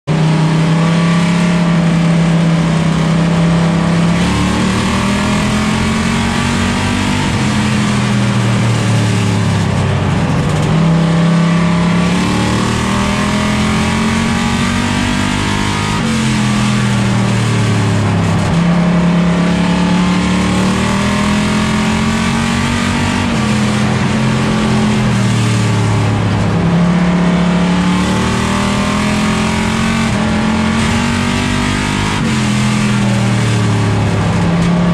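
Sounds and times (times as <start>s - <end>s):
race car engine: 0.0s - 34.9s.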